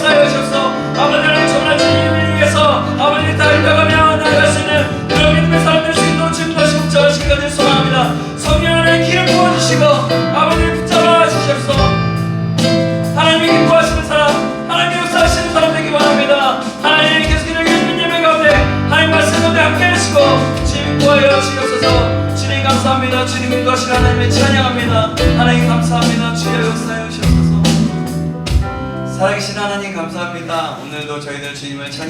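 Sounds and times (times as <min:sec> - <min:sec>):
low drum beat: 0:00.0 - 0:29.2
worship band playing slowly: 0:00.0 - 0:32.0.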